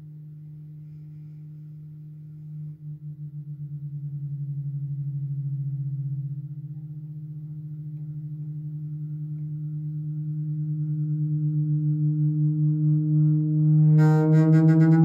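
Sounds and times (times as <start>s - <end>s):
string feedback drone beating: 0.8s - 15.0s.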